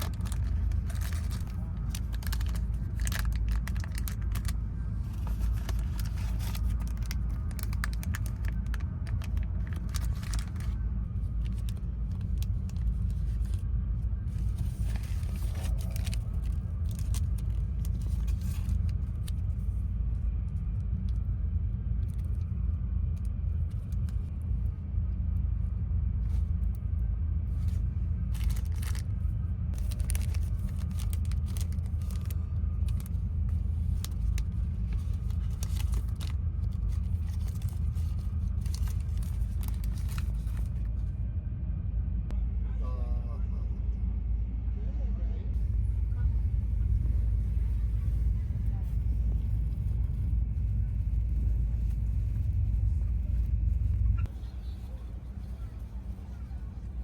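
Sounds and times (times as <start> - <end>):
moving train rumble: 0.0 - 57.0.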